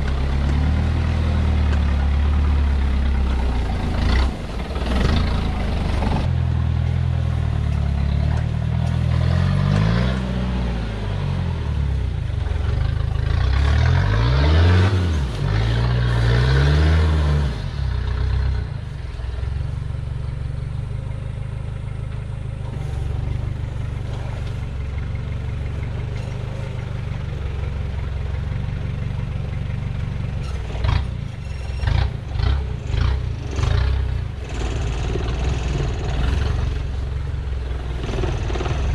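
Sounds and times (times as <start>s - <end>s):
diesel engine revving under load: 0.0s - 38.9s.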